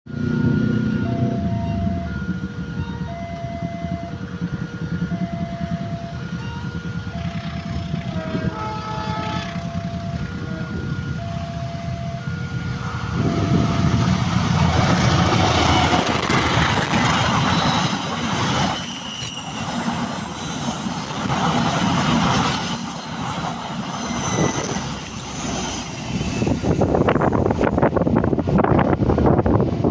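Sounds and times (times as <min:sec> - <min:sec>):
passenger train passing: 0:00.1 - 0:29.9.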